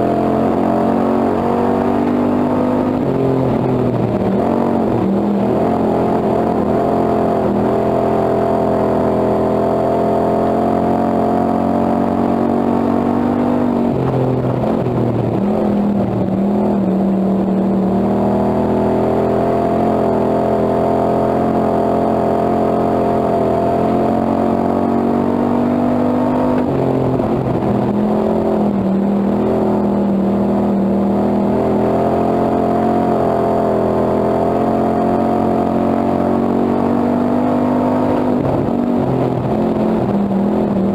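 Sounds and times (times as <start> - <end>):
race car engine: 0.0 - 40.9.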